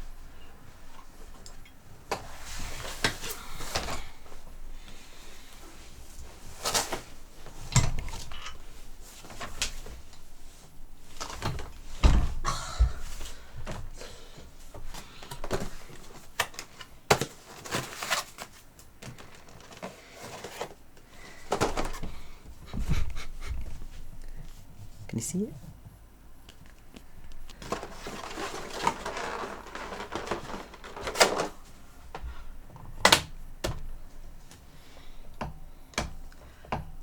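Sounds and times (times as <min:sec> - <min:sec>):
chair parts knocking and rustling: 0:05.6 - 0:25.0, 0:26.6 - 0:37.0.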